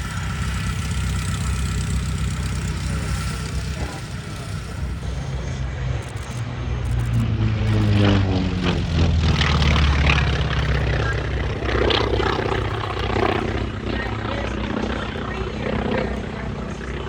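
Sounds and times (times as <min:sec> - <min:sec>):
propeller aircraft passing: 0:00.0 - 0:17.0.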